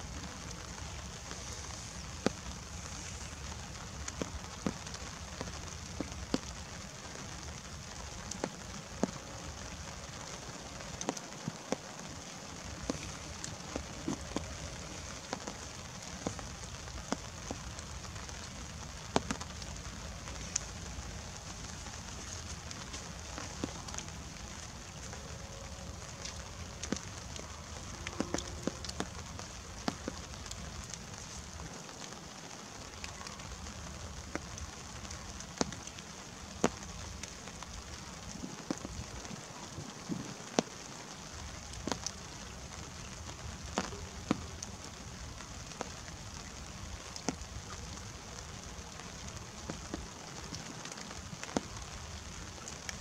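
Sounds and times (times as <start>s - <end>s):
light rain hissing: 0.0s - 53.0s
raindrops ticking: 0.0s - 53.0s.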